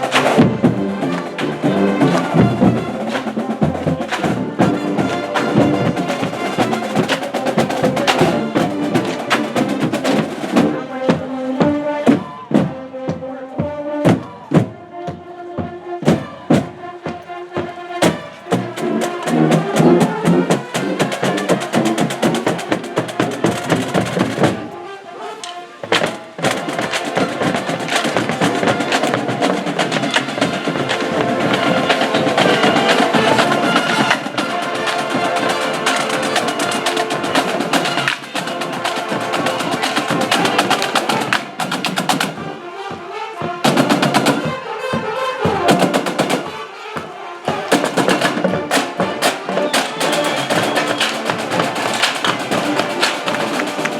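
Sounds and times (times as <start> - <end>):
drumline: 0.0 - 53.9
marching band brass: 0.0 - 53.9.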